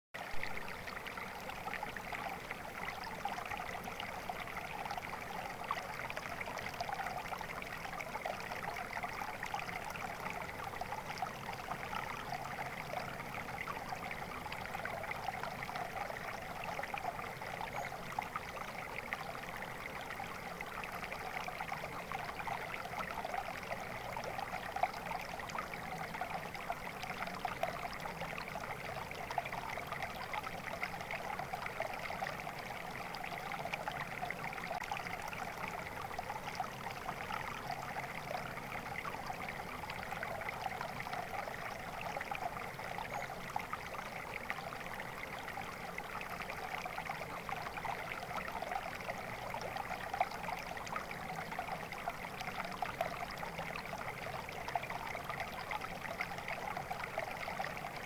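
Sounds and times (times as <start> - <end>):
stream water babbling: 0.2 - 58.0.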